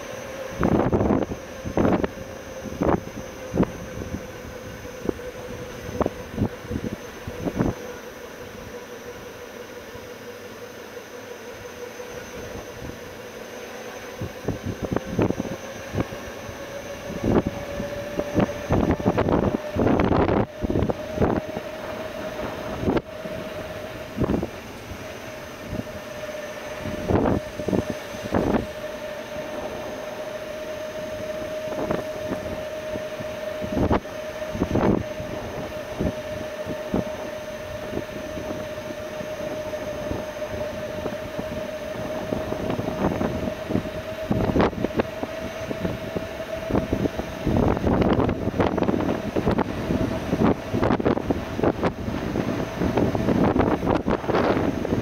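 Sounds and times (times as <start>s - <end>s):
electric road train hum: 0.0s - 55.0s.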